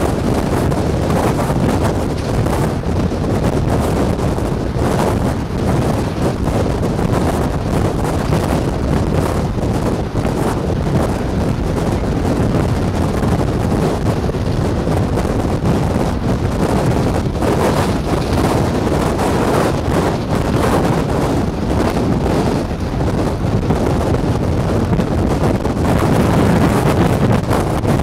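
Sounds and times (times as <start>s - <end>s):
car road noise: 0.0s - 28.0s
wind rushing over microphone: 0.0s - 28.0s.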